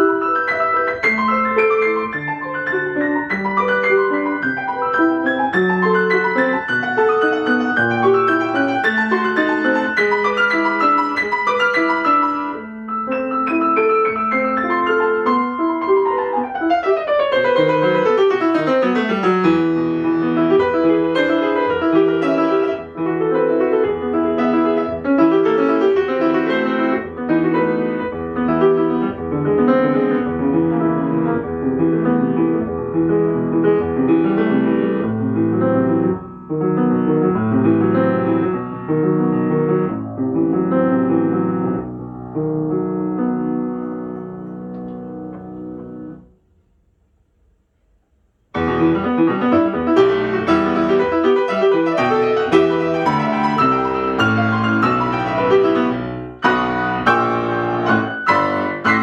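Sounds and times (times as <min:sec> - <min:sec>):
solo classical piano: 0:00.0 - 0:59.0.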